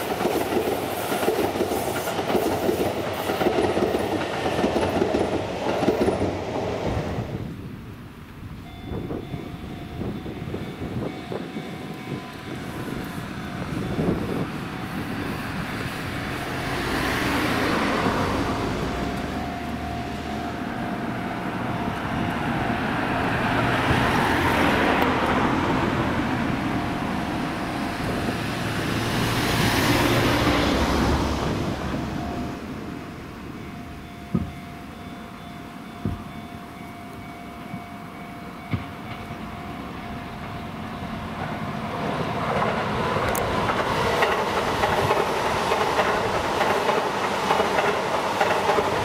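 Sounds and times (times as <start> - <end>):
electric train running past: 0.0 - 49.0.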